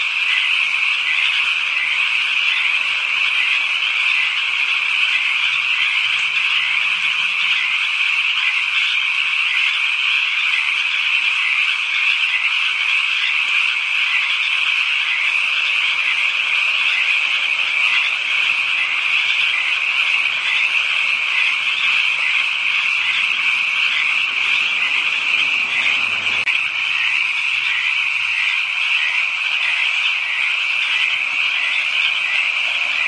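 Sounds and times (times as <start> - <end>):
chorus of frogs calling: 0.0 - 33.0.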